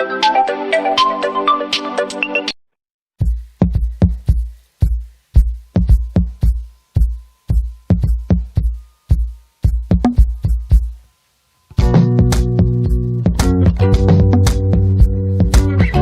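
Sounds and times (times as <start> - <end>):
drum-machine ringtone beat: 0.2 - 2.6, 3.2 - 11.0, 11.8 - 16.0.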